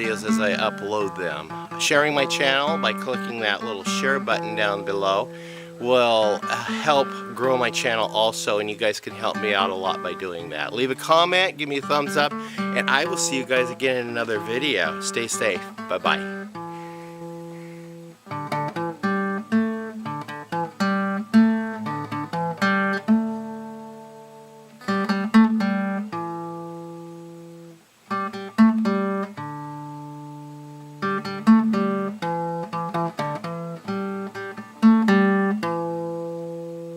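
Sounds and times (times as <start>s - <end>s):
plucked acoustic guitar: 0.0s - 36.9s.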